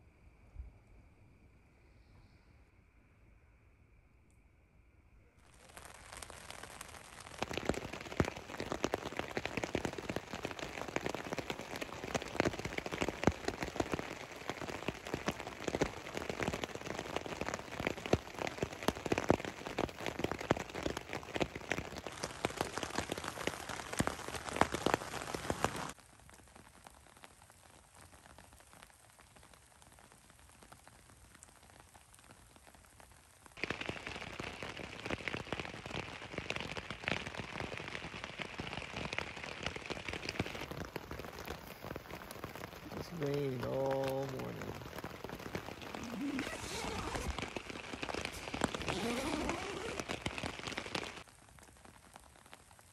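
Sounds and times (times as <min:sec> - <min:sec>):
rain pattering on a tent: 0:05.4 - 0:52.9.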